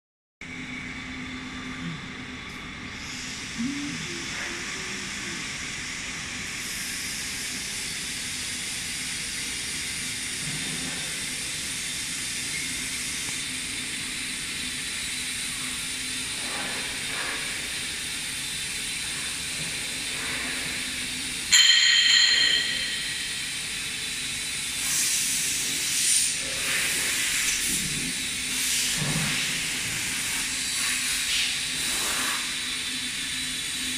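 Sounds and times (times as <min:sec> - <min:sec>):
loud high-pitched whine: 0:00.4 - 0:33.9
machine hiss and low hum: 0:00.4 - 0:33.9.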